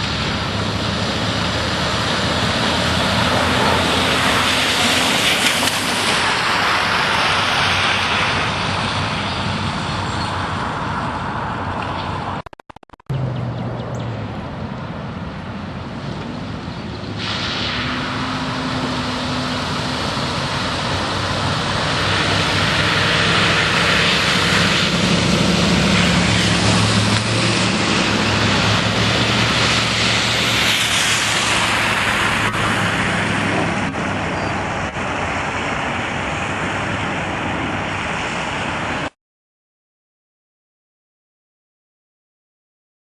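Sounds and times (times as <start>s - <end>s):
passing vehicle engine: 0.0s - 12.4s, 13.1s - 39.1s.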